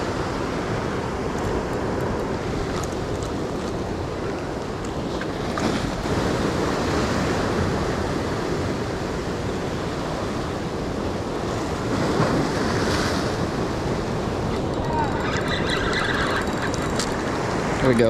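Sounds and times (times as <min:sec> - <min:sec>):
surf washing against rocks: 0:00.0 - 0:18.0.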